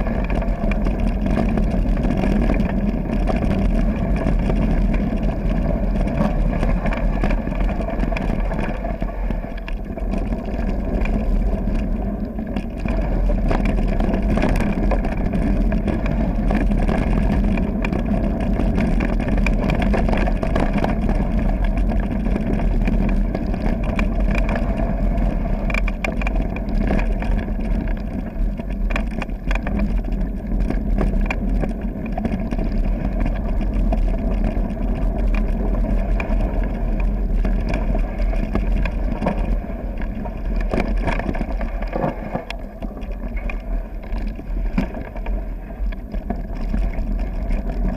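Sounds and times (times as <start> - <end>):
bike rattles and knocks: 0.0 - 47.9
wind rush on microphone: 0.0 - 47.9.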